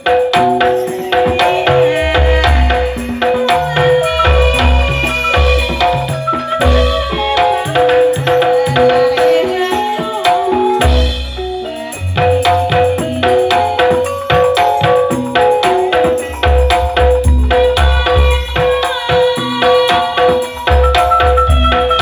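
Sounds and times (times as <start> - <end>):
metallophone notes: 0.0 - 22.0.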